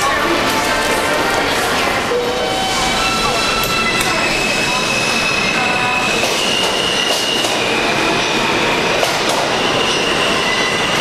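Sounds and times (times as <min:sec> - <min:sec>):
subway train rumbling: 0:00.0 - 0:11.0
wheel squeal: 0:02.1 - 0:11.0.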